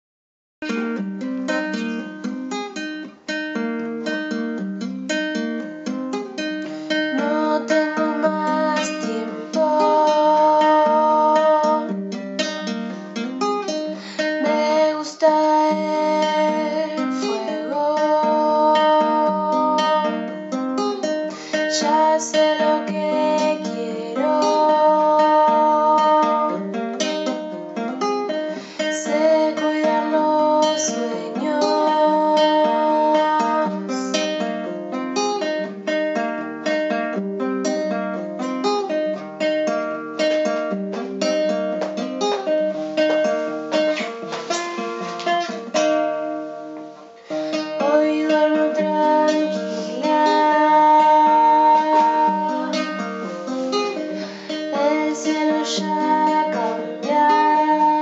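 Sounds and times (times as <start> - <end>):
acoustic folk song on plucked strings: 0.6 - 58.0.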